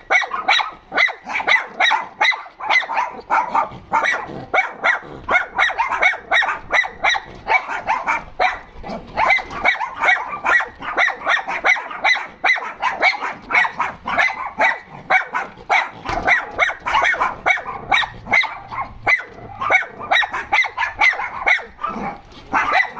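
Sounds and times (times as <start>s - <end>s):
dogs barking rapidly: 0.0s - 22.9s.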